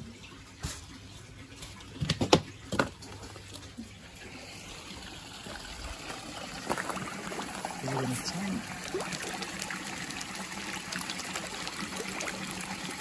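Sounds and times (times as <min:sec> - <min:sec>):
water trickling into fish tank: 0:00.0 - 0:13.0.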